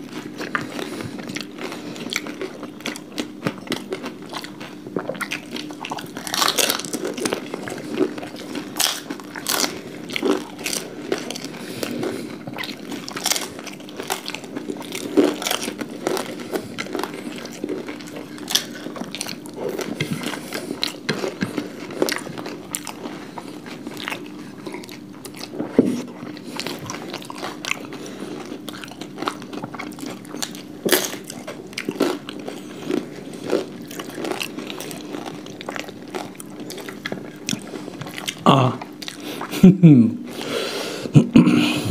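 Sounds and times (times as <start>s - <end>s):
crunching and chewing: 0.0s - 39.7s
faint steady hum: 0.0s - 41.9s.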